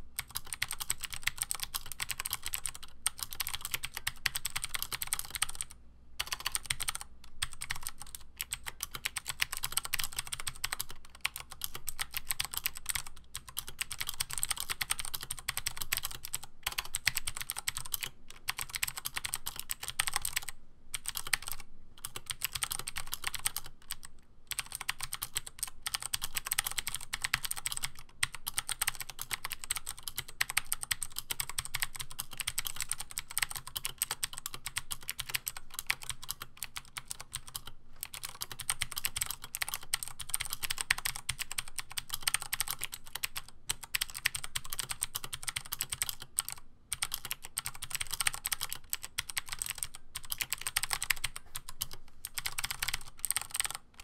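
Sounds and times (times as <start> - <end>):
clicky mechanical keyboard typing: 0.2 - 54.0.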